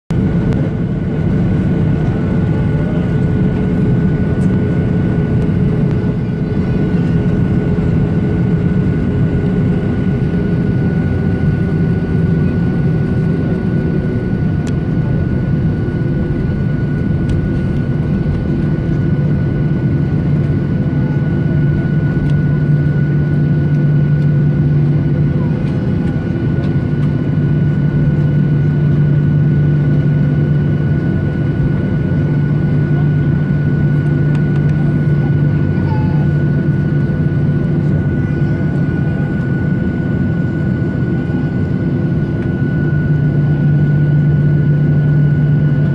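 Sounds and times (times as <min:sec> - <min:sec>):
high engine whine: 0:00.1 - 0:45.9
jet engines low rumble: 0:00.1 - 0:45.9.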